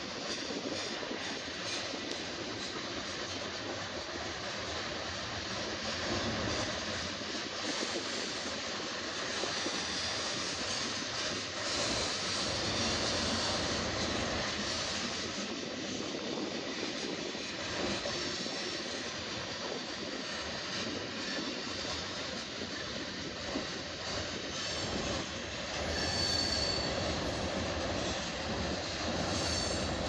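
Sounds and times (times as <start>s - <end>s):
freight train rolling past: 0.0s - 30.0s.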